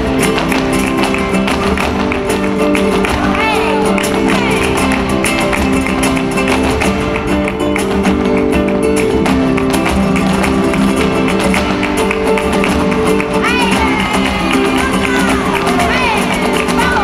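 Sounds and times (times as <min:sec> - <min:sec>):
flamenco guitars playing: 0:00.0 - 0:17.0
heeled shoes tapping on stage: 0:00.0 - 0:17.0.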